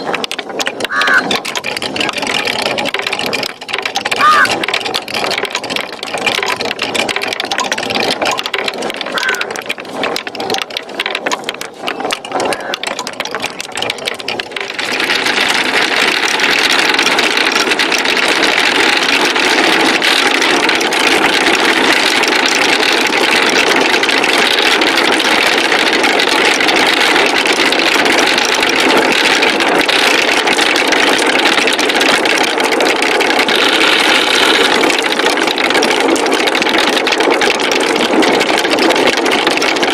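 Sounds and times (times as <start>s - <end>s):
marbles rolling on wooden run: 0.0s - 39.9s.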